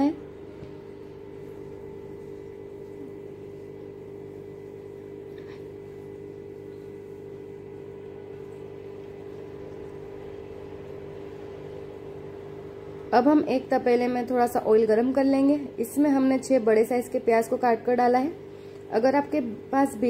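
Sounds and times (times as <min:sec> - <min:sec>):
mechanical motor hum: 0:00.0 - 0:20.0.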